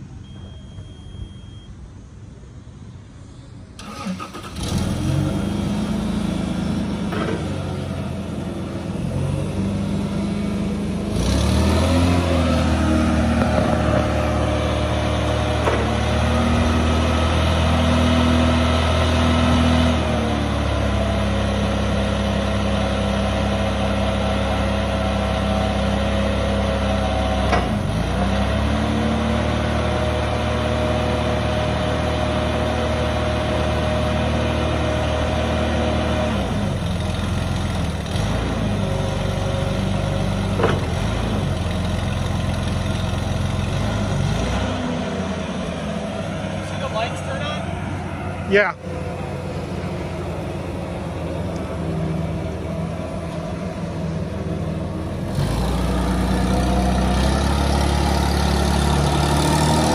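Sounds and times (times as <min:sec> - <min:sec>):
forklift engine running: 0:00.0 - 0:59.9.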